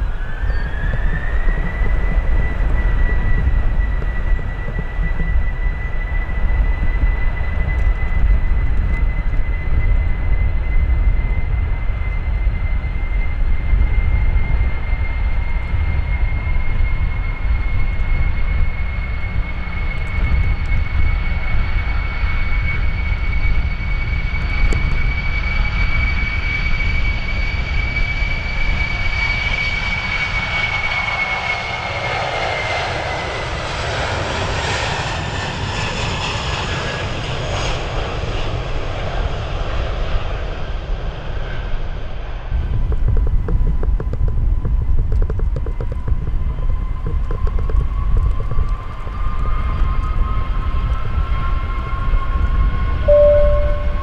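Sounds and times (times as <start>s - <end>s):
high engine whine: 0.0s - 54.0s
jet engines roaring at takeoff: 0.0s - 54.0s.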